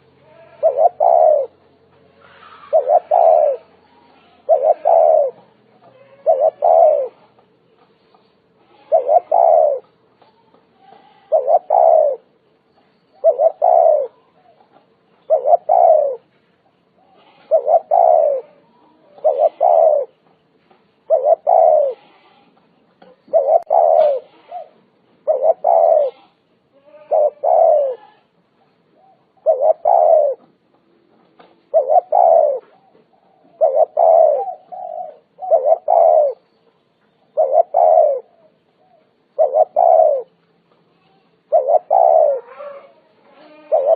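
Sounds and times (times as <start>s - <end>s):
dove cooing: 0.0s - 7.4s, 8.6s - 12.3s, 13.1s - 16.3s, 17.0s - 20.3s, 21.0s - 28.3s, 28.9s - 36.5s, 37.3s - 40.4s, 41.5s - 43.9s.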